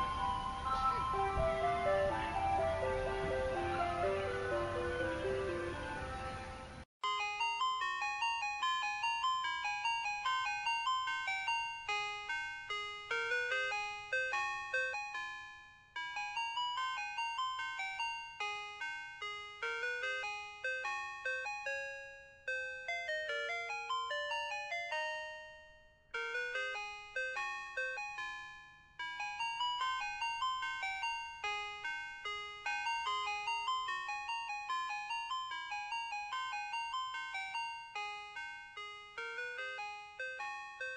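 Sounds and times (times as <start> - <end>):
ice cream truck jingle: 0.0 - 40.9.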